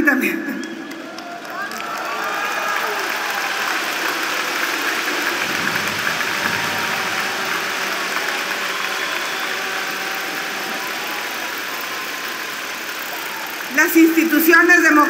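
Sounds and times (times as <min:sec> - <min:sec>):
large audience applauding: 0:00.5 - 0:15.0.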